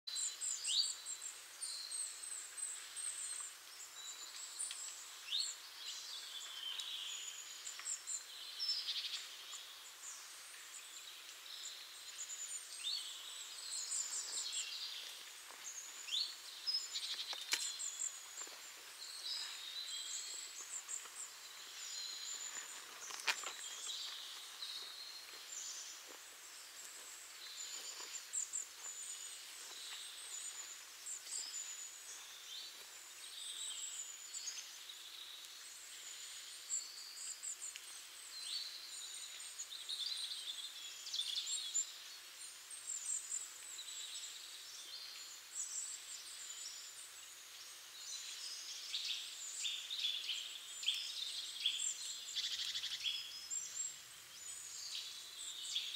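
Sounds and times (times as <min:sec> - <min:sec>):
faint steady hiss: 0:00.0 - 0:55.9
small birds chirping and trilling: 0:00.0 - 0:55.9.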